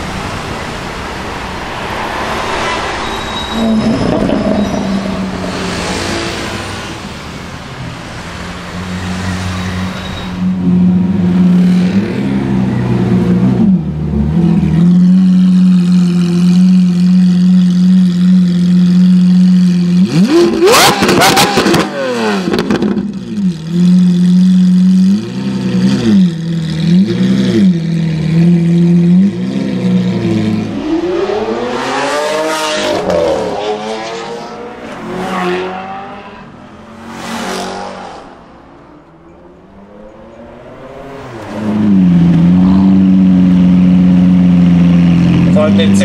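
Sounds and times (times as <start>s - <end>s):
sports car engines revving: 0.0s - 46.0s.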